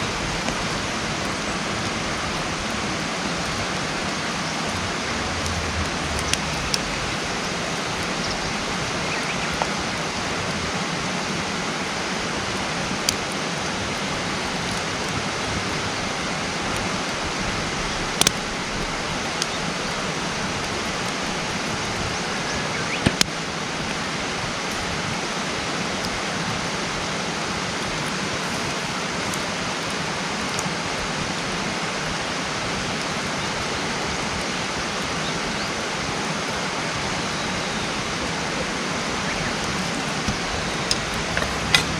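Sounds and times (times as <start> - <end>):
campfire crackling and popping: 0.0 - 41.9
steady rushing noise: 0.0 - 41.9.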